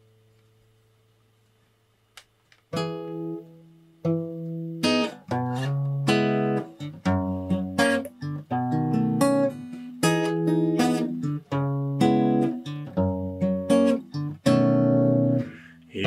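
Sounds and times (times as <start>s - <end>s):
acoustic guitar strumming: 2.7s - 16.0s.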